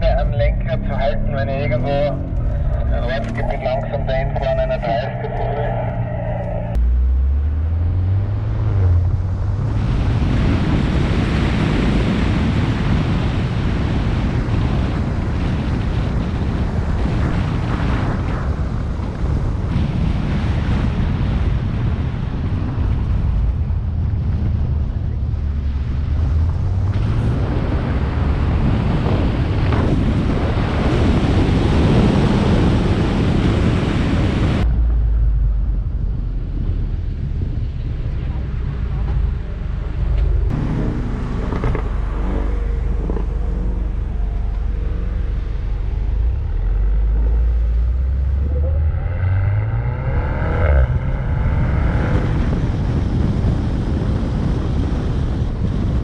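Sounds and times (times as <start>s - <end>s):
car engine droning: 0.0s - 56.0s
rushing wind: 0.0s - 56.0s.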